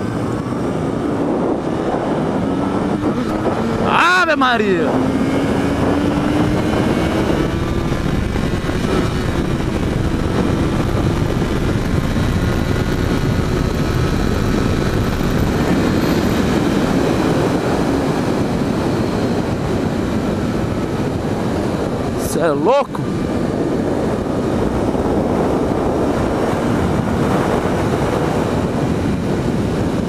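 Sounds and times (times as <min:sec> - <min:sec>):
motorcycle engine running hard: 0:00.0 - 0:30.0
wind rushing on microphone: 0:00.0 - 0:30.0.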